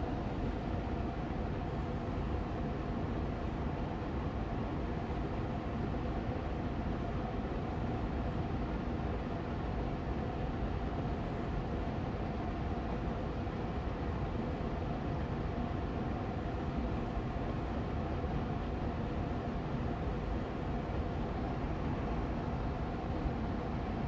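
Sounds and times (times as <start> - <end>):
air purifier fan humming: 0.0 - 24.0.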